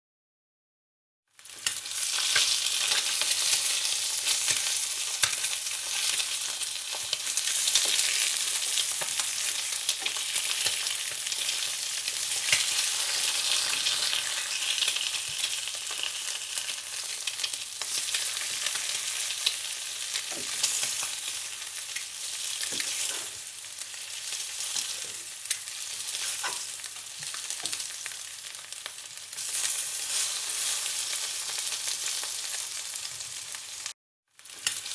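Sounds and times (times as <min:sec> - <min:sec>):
food frying in hot oil: 0:01.3 - 0:34.9.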